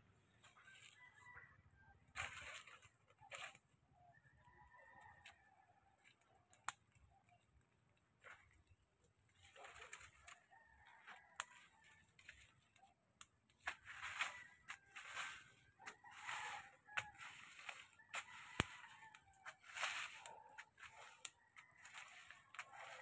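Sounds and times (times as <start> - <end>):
dry vegetation rustling: 0.3 - 1.1, 2.1 - 3.8, 6.0 - 23.0.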